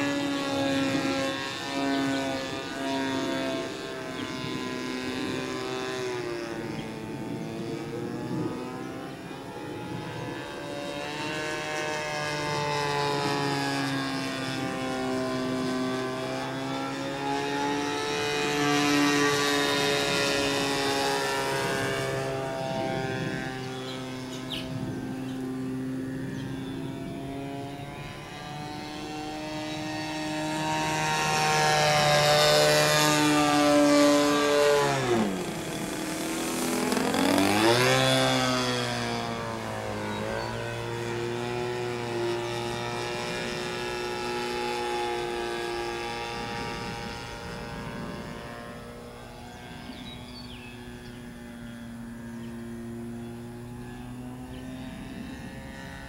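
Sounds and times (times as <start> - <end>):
model plane engine: 0.0 - 56.0.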